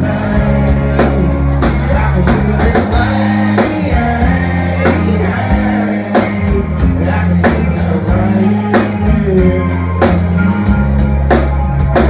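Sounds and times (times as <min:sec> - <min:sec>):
man singing: 0:00.0 - 0:10.5
bass and electric guitars: 0:00.0 - 0:12.0
drum kit beat: 0:00.0 - 0:12.0.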